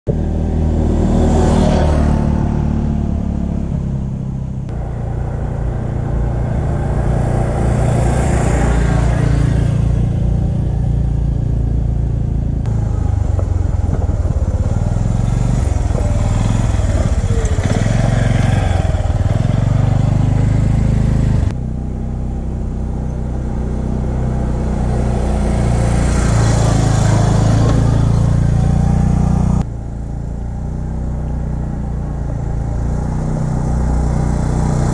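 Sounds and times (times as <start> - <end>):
atv engine running: 0.1 - 34.9.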